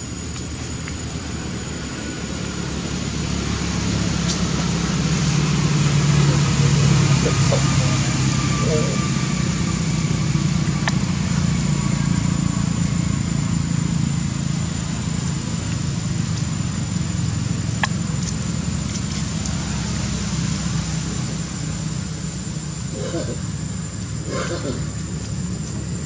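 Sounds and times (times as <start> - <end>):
motor engine droning: 0.0 - 26.0.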